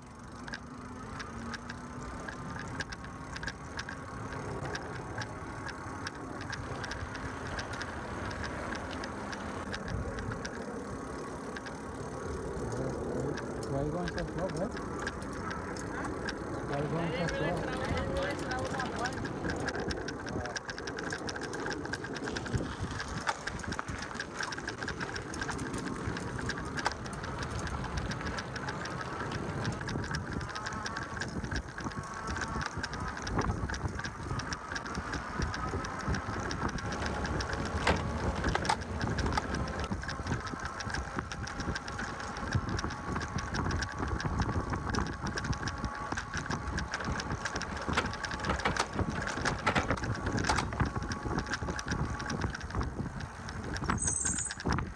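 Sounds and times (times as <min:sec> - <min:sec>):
bike rattling: 0:00.0 - 0:54.9
tyres rumbling on path: 0:00.0 - 0:54.9.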